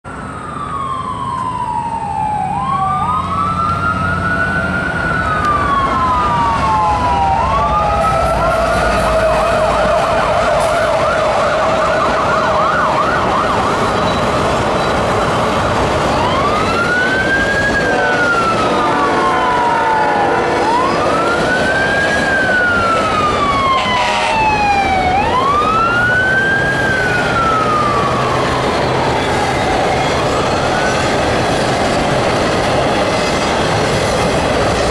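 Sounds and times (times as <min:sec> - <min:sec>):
fire truck siren wailing: 0:00.0 - 0:34.9.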